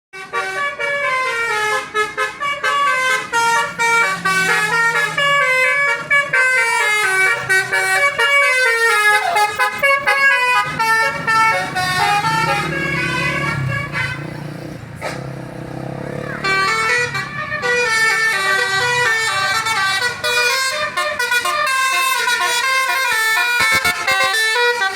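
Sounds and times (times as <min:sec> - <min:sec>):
musical air horn tune: 0:00.2 - 0:14.3, 0:16.4 - 0:24.9
bus engine running: 0:00.3 - 0:24.9.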